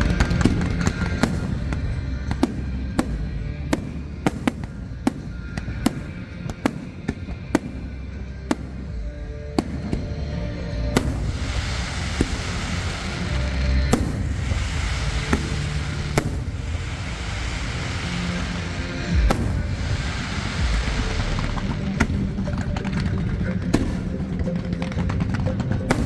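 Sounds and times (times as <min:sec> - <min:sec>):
fireworks pops and cracks: 0:00.0 - 0:26.0
low rumble: 0:00.0 - 0:26.0
music playing: 0:00.0 - 0:26.0.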